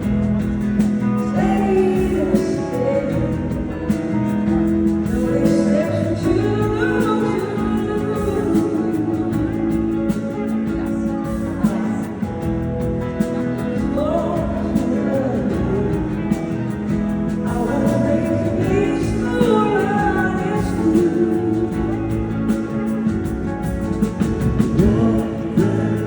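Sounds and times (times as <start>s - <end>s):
guitar sustained notes: 0.0s - 26.0s
person singing: 0.0s - 26.0s.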